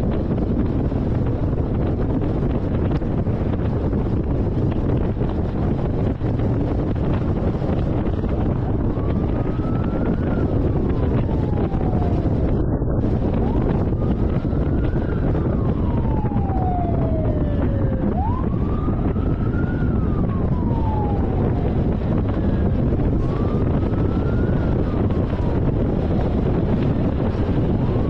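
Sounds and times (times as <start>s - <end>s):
car road and wind rumble: 0.0s - 28.0s
police siren wailing: 0.0s - 28.0s.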